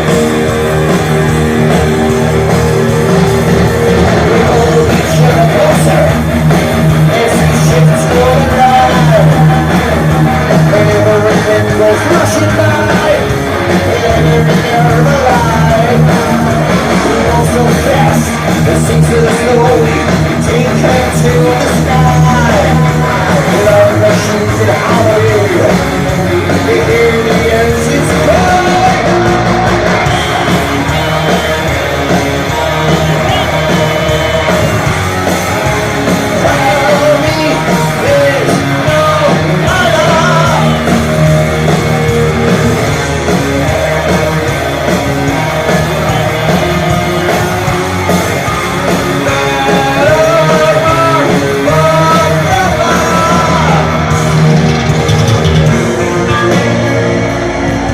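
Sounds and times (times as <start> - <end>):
bass guitar: 0.0 - 57.9
distorted electric guitars: 0.0 - 57.9
drums: 0.0 - 57.9.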